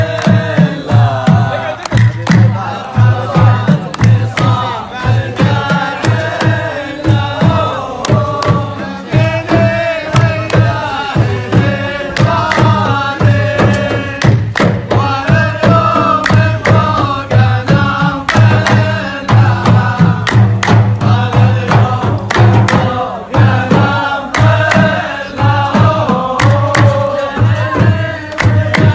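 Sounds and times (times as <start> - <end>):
chanted vocal music: 0.0 - 28.9
deep pulsing drum beat: 0.0 - 28.9
sharp percussion hits: 0.0 - 28.9.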